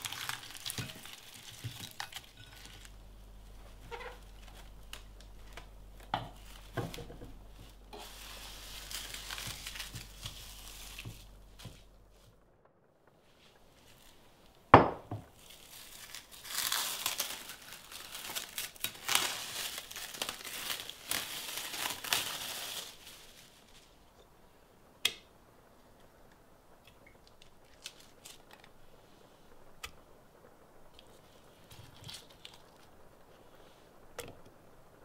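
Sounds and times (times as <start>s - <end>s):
cling film crinkling: 0.0s - 14.7s, 15.3s - 24.4s, 26.0s - 35.0s.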